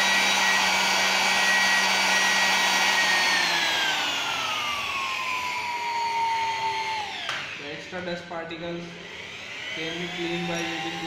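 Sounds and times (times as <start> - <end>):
electric air blower whining: 0.0 - 11.0.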